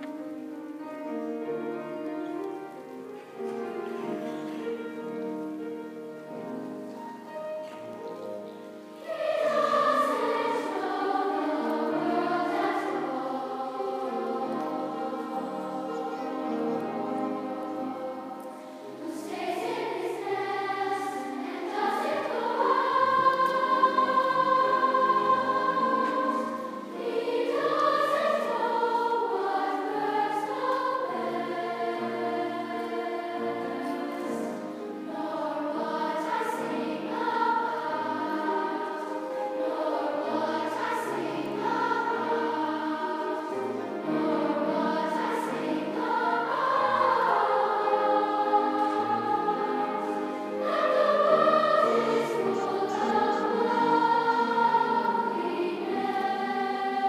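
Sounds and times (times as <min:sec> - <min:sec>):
children's choir singing: 0:00.0 - 0:57.0
piano accompaniment: 0:00.0 - 0:57.0.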